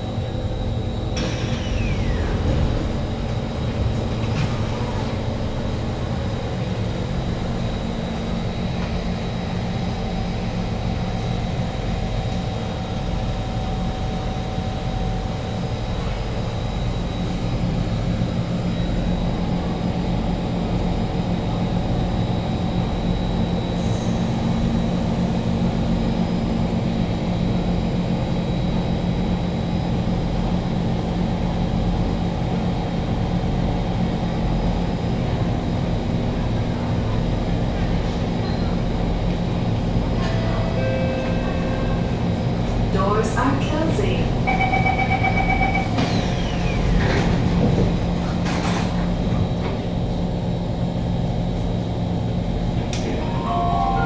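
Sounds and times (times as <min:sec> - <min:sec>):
train carriage hum: 0:00.0 - 0:54.0.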